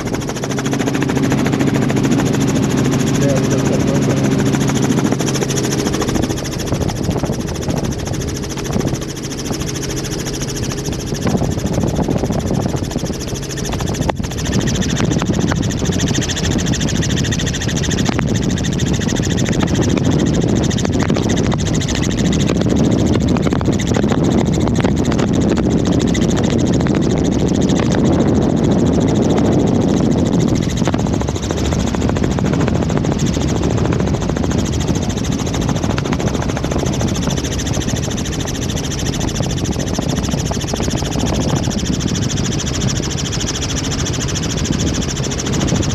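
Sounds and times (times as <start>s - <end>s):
helicopter rotor and turbine drone: 0.0s - 45.9s.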